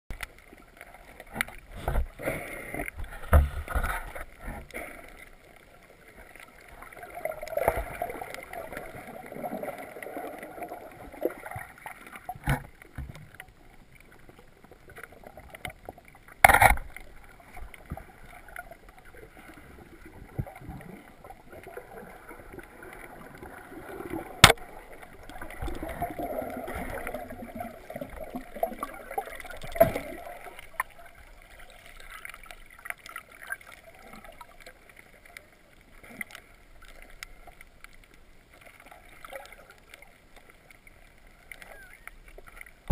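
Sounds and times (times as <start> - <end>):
water sloshing and bubbling: 0.1 - 42.9.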